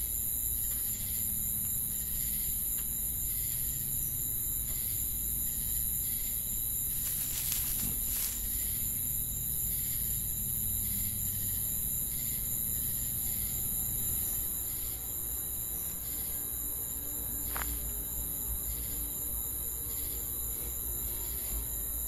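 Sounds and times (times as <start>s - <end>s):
crickets and insects chirring: 0.0s - 22.0s.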